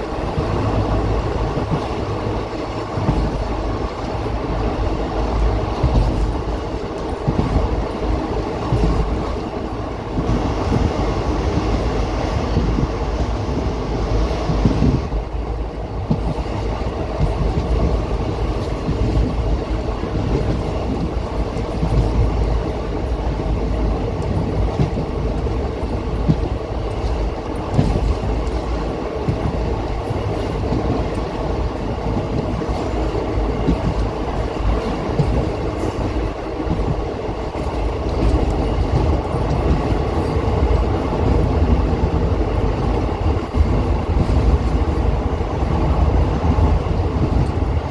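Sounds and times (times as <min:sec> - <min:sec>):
train running on rails: 0:00.0 - 0:47.9.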